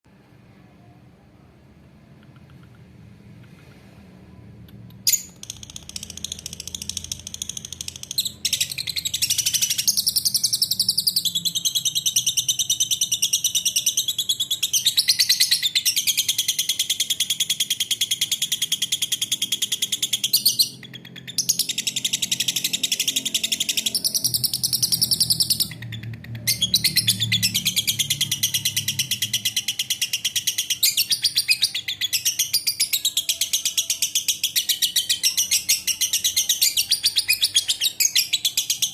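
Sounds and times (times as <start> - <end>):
lovebird chattering trill: 5.1 - 38.9.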